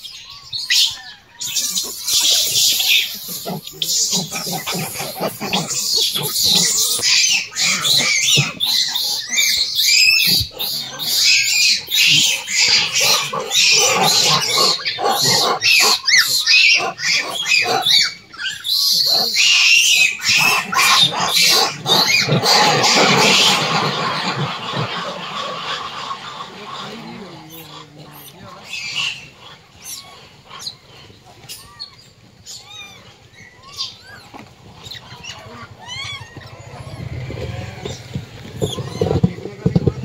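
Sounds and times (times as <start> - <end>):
monkeys squealing and shrieking: 0.1 - 40.0
monkeys grunting: 1.4 - 31.8, 33.9 - 40.0.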